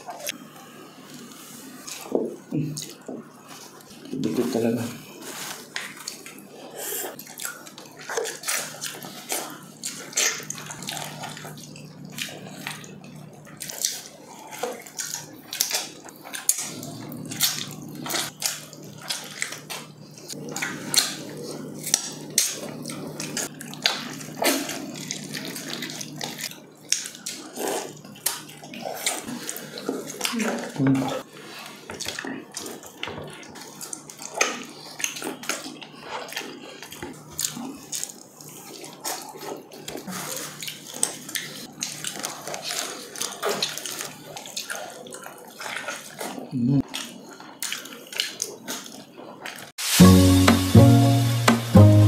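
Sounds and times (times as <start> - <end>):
people chewing and lip smacking: 0.0 - 49.8.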